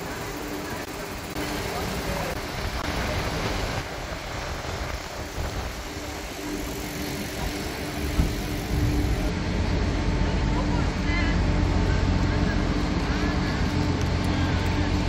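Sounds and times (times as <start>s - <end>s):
ferry machinery humming: 0.0s - 15.0s.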